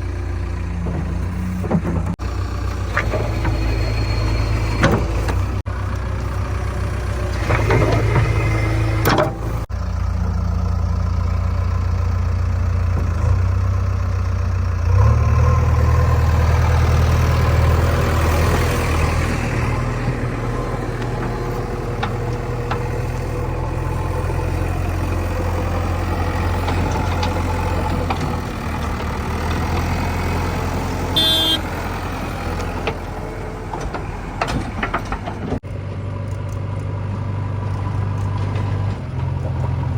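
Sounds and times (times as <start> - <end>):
diesel engine running and revving: 0.0 - 39.9.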